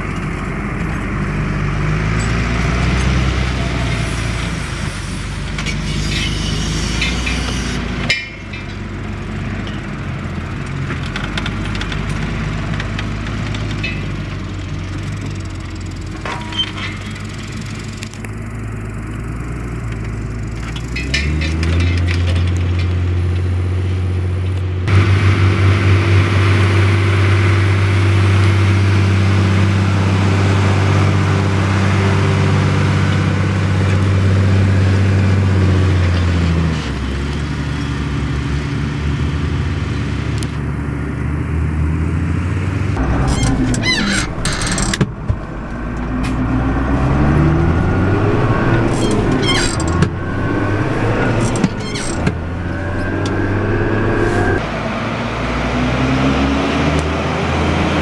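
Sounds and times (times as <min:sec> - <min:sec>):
diesel tractor engine under load: 0:00.0 - 0:58.0.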